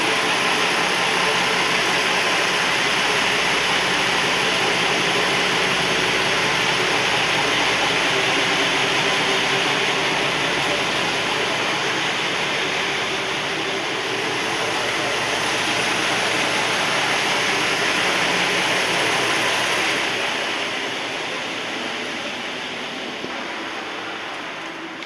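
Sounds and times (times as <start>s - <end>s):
railcar engine and wheels on rail: 0.0s - 25.0s.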